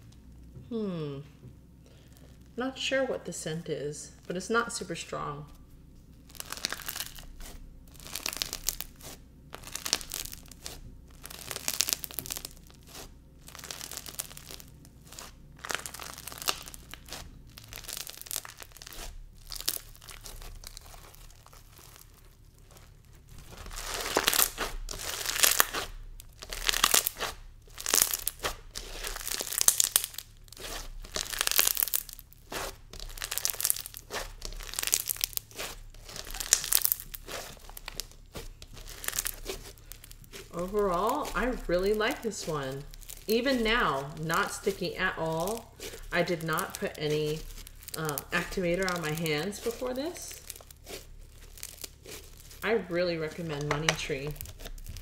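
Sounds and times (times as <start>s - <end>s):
crunchy slime crackling: 0.0s - 55.0s.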